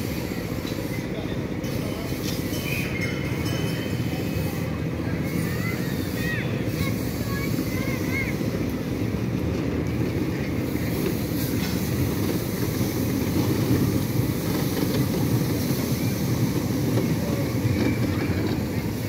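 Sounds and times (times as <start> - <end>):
kiddie ride train rumbling: 0.0 - 19.0.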